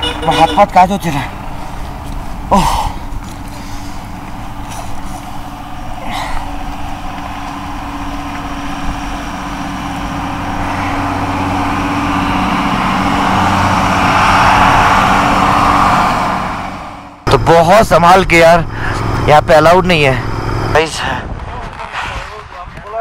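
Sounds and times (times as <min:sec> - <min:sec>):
vehicle passing: 0:00.0 - 0:22.5
steady engine hum: 0:00.0 - 0:23.0.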